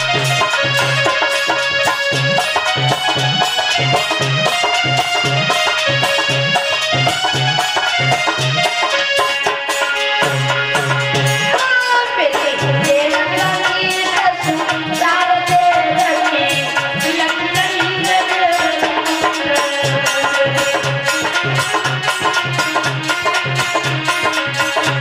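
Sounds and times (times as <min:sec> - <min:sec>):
hand drum steady beat: 0:00.0 - 0:25.0
wavering melody line: 0:00.0 - 0:25.0.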